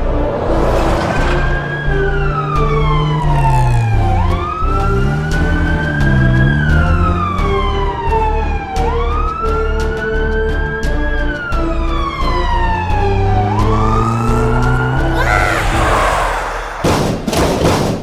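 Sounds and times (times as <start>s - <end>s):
ambulance siren wailing: 1.6s - 16.8s.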